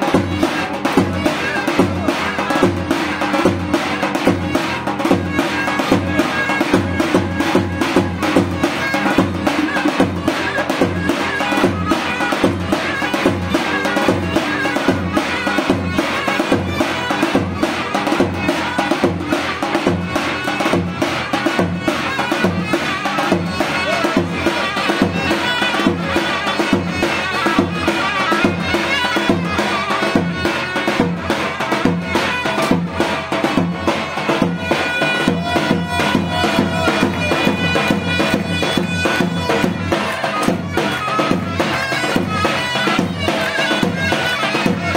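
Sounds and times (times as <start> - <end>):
loud drum beat: 0.0 - 44.9
shrill reed pipe melody: 0.0 - 44.9.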